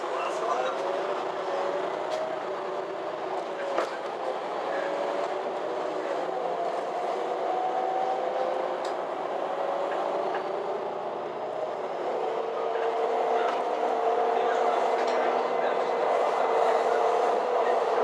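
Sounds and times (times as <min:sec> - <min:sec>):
bus engine drone: 0:00.0 - 0:18.0.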